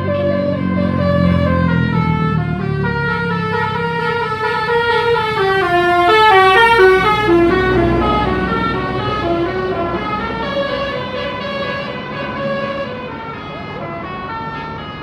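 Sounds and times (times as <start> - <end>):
musical air horns playing tune: 0.0 - 15.0.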